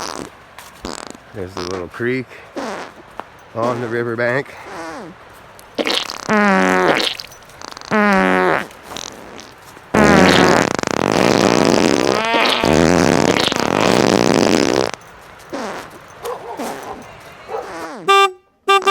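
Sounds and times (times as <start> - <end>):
fart sounds: 0.0 - 4.0, 4.6 - 17.0, 17.6 - 18.9.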